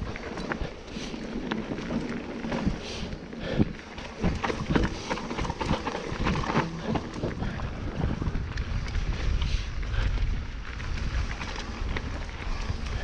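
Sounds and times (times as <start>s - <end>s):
bike knocking and rattling: 0.0s - 13.0s
bike tyres on dirt: 0.0s - 13.0s
wind buffeting microphone: 0.0s - 13.0s.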